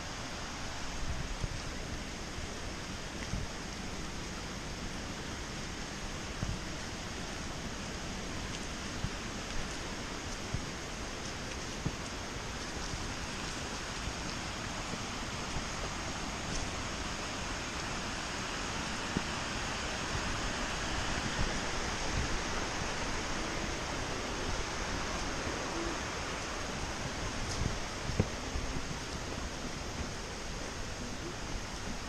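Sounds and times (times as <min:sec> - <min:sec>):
falling water rushing: 0:00.0 - 0:32.0.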